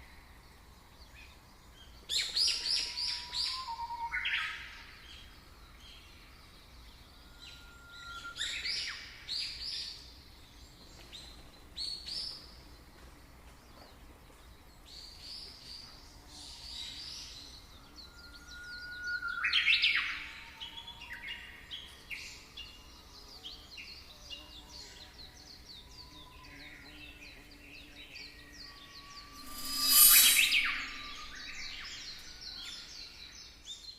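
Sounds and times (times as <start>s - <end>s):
faint background noise: 0.0s - 33.9s.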